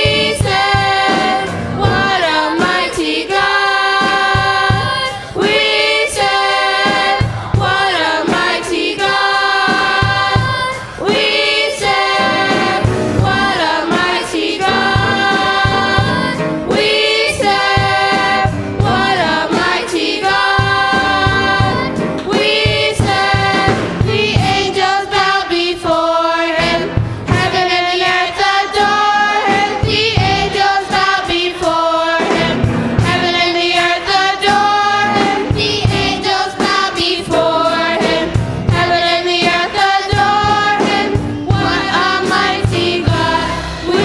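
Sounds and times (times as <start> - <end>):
choir singing gospel: 0.0 - 44.0.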